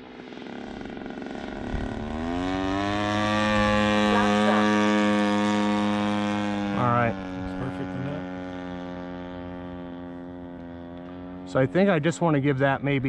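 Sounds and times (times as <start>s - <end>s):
model airplane engine in flight: 0.0s - 13.0s.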